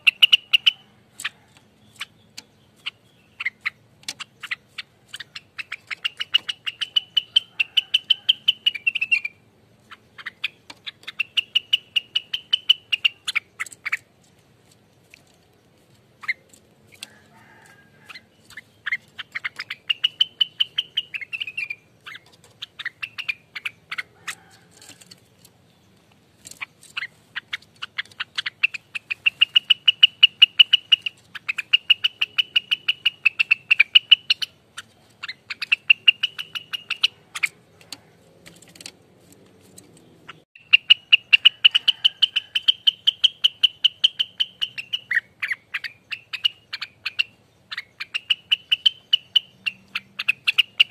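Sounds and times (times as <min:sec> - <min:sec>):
bird singing rapid trills: 0:00.0 - 0:14.4, 0:16.2 - 0:50.9.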